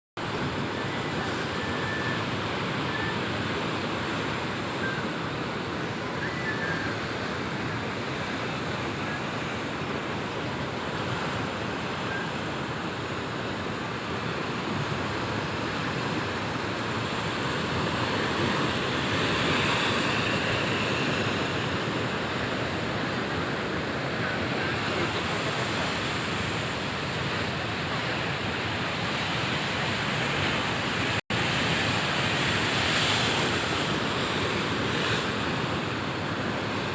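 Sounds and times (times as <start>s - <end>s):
waves breaking: 0.3s - 36.9s.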